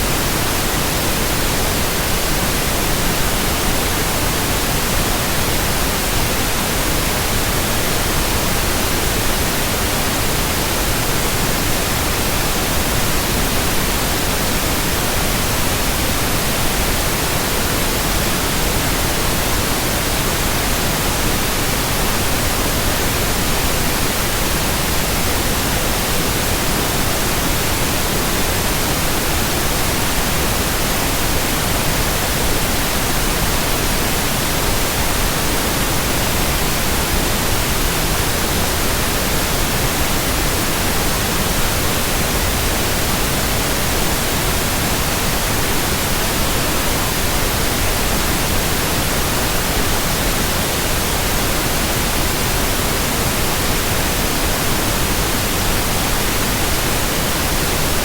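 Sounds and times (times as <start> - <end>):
steady white noise hiss: 0.0 - 58.0.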